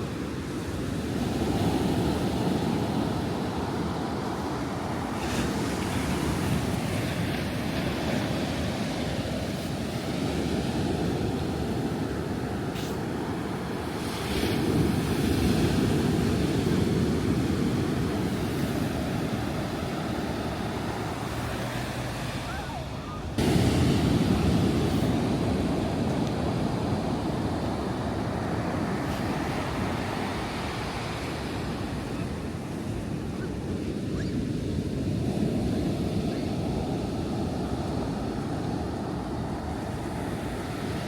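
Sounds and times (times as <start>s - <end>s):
waves breaking on shore: 0.0s - 41.0s.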